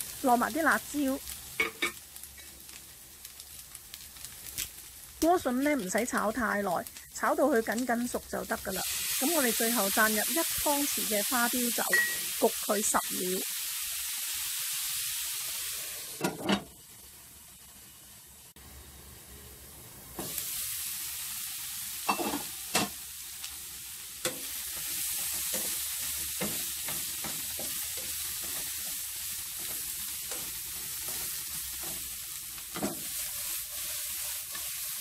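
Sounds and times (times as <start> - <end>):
vegetables sizzling in a wok: 0.0 - 35.0.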